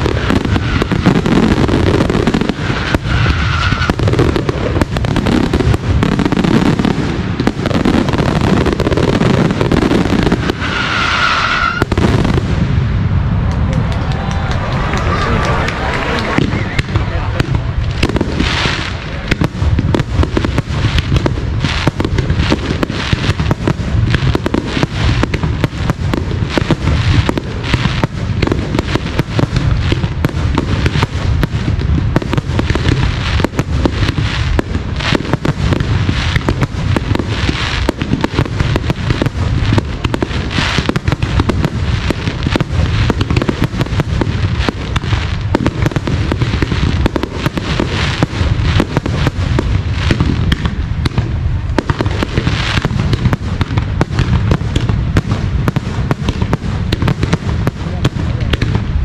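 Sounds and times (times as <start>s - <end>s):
fireworks bursting in a barrage: 0.0s - 59.0s.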